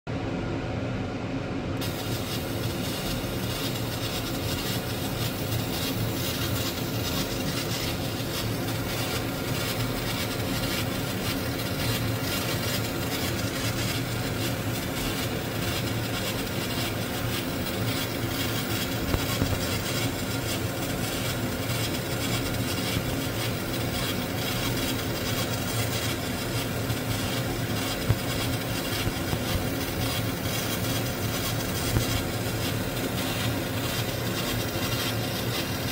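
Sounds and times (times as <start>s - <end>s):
laser engraving hiss: 1.8s - 35.9s.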